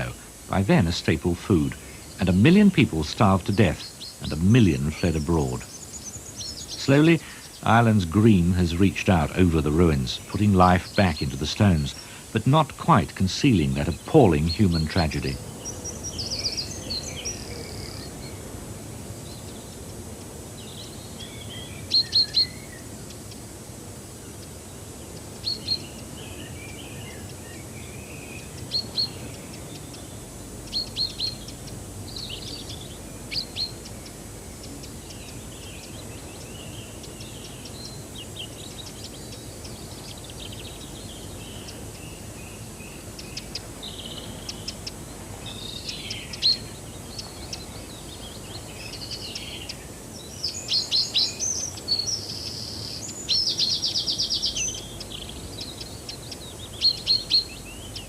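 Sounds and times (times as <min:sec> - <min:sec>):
soft bird twittering: 0:00.0 - 0:18.4, 0:25.0 - 0:58.0
background hiss: 0:00.0 - 0:58.0
birds chirping: 0:00.0 - 0:58.0.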